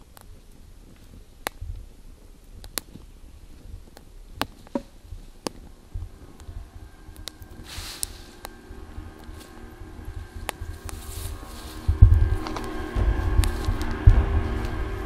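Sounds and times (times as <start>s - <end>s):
fire hissing: 0.0s - 15.0s
wood fire crackling: 0.0s - 15.0s
low rumble: 0.5s - 15.0s.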